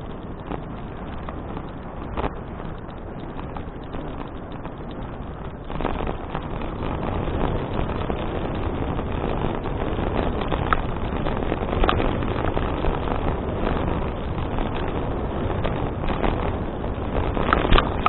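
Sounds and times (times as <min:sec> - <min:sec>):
bicycle tyres rumbling on path: 0:00.0 - 0:18.0
wind rushing over microphone: 0:00.0 - 0:18.0.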